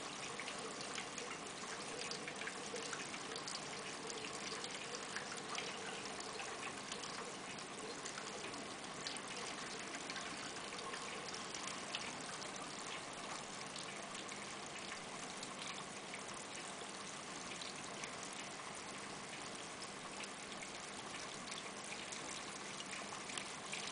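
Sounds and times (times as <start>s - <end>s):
faint steady hum: 0.0s - 23.9s
water trickling and splashing: 0.0s - 23.9s.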